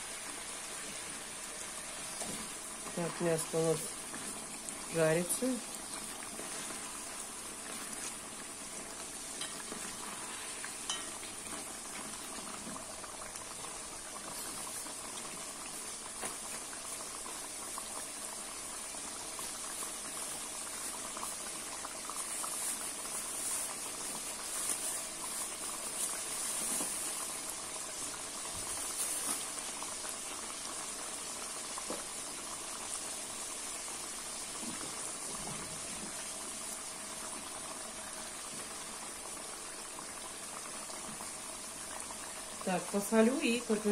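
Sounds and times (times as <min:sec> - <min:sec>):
meat sizzling in hot oil: 0:00.0 - 0:43.9.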